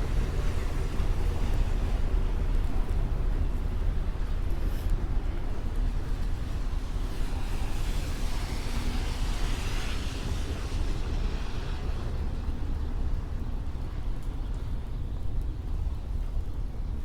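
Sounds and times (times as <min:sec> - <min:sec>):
tyres hissing on wet street: 0:00.0 - 0:16.2
low traffic rumble: 0:00.0 - 0:17.0.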